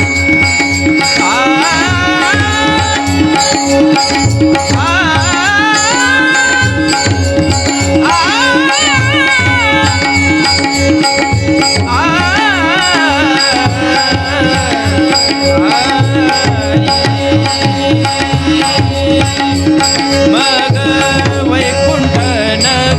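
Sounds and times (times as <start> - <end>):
fast hand drum rhythm: 0.0 - 22.9
ornamented melodic line: 0.0 - 22.9.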